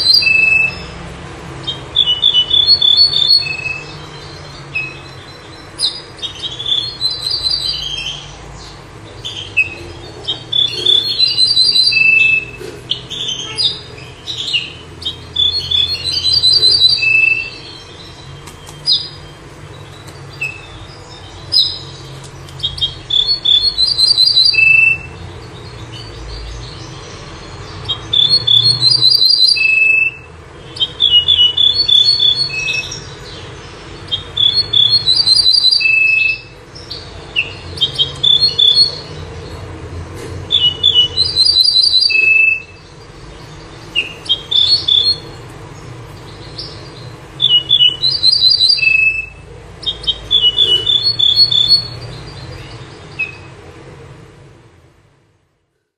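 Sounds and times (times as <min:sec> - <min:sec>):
songbird chirping song: 0:00.0 - 0:55.9.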